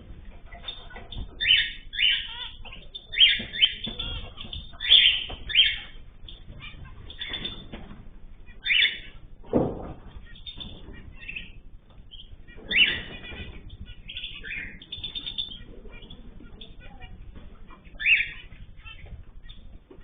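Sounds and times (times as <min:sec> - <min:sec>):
cage birds chirping: 0:00.0 - 0:20.0
wings flapping: 0:00.0 - 0:20.0.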